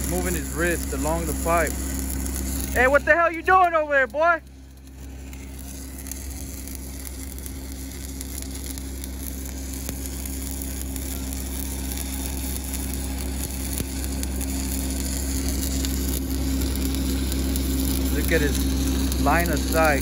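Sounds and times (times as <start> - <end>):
low steady hum: 0.0 - 20.0
welding arc crackling and sizzling: 0.0 - 20.0.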